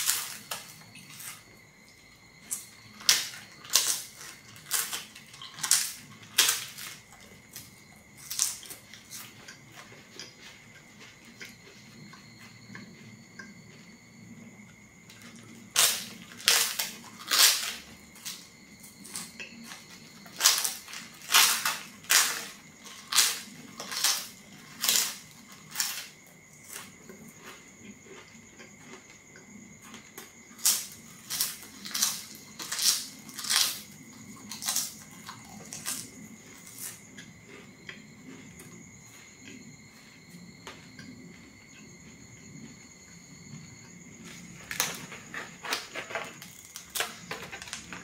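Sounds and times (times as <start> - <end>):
crunching of crisp flatbread: 0.0 - 13.5, 15.0 - 42.9, 43.5 - 48.0
soft chewing: 0.0 - 47.8
high insect trill: 0.0 - 48.0.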